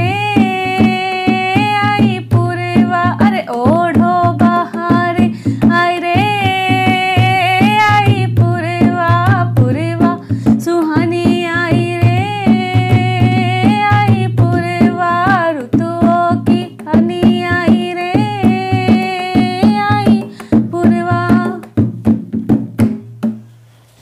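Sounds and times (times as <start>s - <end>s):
woman singing devotional song: 0.0s - 21.9s
dholak drum beat: 0.0s - 23.7s.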